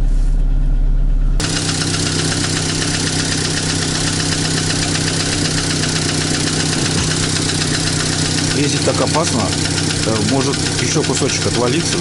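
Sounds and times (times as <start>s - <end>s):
car engine idling with knocking: 1.4s - 12.0s.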